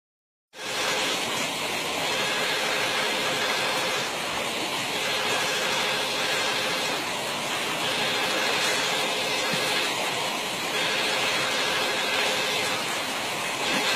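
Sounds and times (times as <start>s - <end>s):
stream rushing: 0.6s - 13.9s.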